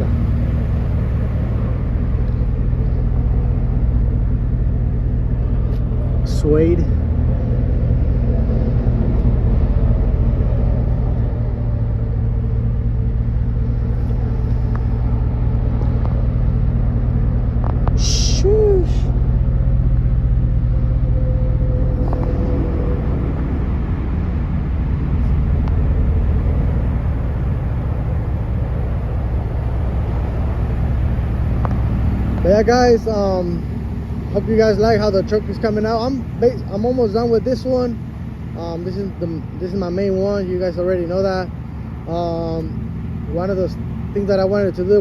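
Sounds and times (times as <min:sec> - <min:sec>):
pickup engine idling: 0:00.0 - 0:45.0.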